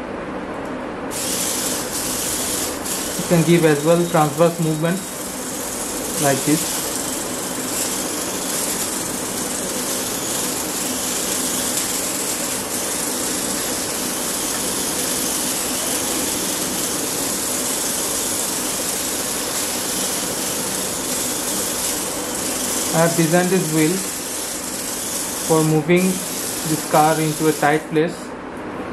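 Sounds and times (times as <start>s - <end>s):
robot car motors whirring: 1.1s - 27.8s.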